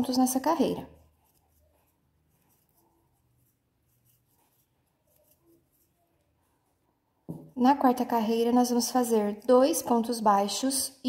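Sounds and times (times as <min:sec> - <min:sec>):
crochet hook rustling yarn: 0:00.0 - 0:10.2.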